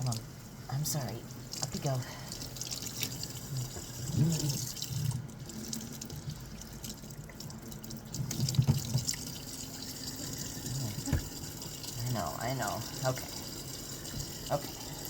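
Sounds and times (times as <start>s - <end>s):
faucet water running: 0.0s - 15.0s
water splashing and dripping: 1.0s - 15.0s.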